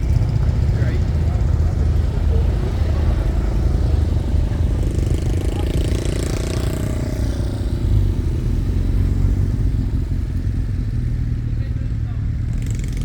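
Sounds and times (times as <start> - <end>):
motorcycle engine revving: 0.0 - 13.0
motorcycle engines rumbling: 0.0 - 13.0.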